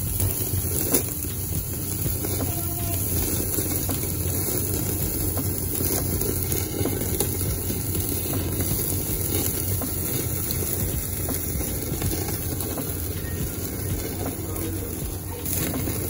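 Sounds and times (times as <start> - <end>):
low hum: 0.0 - 16.0
meat sizzling and crackling on grill: 0.0 - 16.0.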